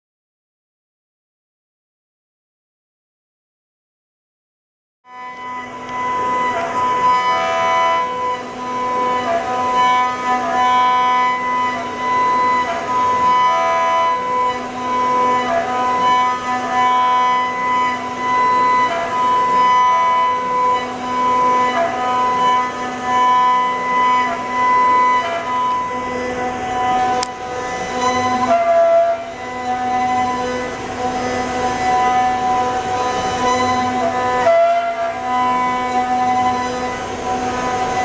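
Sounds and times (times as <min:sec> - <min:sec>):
router spindle high whine: 0:05.1 - 0:38.0.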